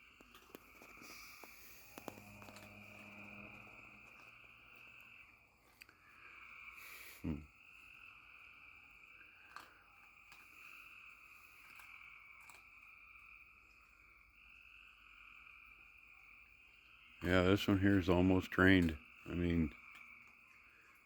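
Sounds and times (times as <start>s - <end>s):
frogs and insects trilling: 0.0s - 21.0s.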